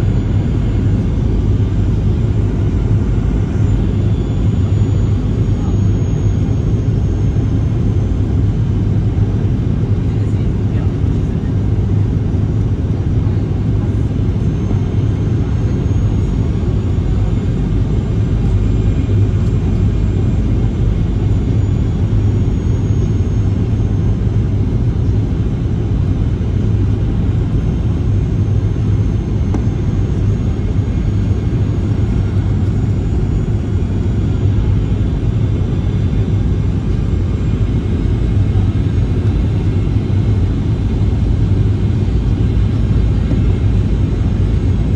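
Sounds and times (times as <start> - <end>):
jet engines rumbling: 0.0 - 44.9.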